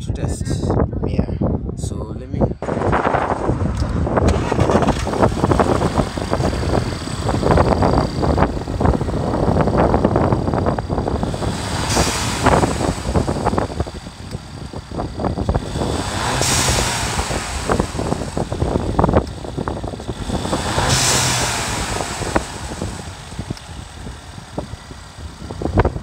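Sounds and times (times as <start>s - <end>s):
car engine revving: 2.6s - 26.0s.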